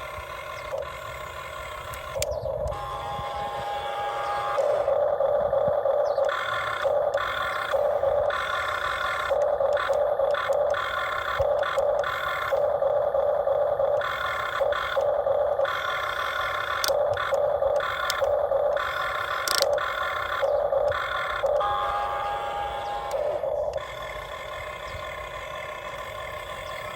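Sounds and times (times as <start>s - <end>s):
electric motors whining: 0.0s - 26.9s
sharp clicks: 0.1s - 2.8s, 6.0s - 12.8s, 13.9s - 26.9s.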